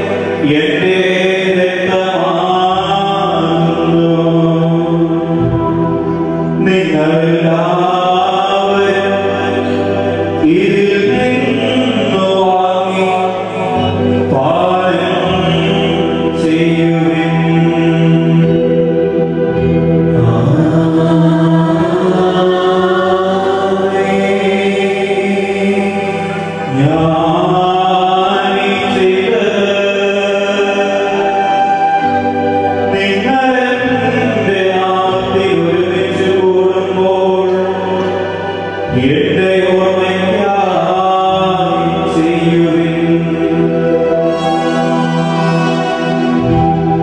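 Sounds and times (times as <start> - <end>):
liturgical chant with music: 0.0 - 47.0.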